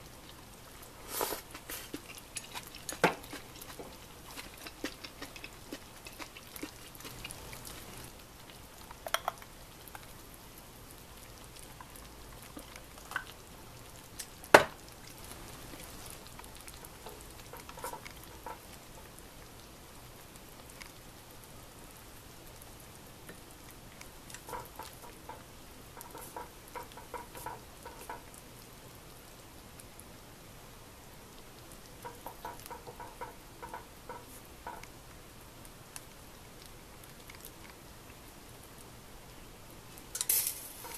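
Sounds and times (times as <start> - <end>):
hot pot simmering and sizzling: 0.0 - 40.9.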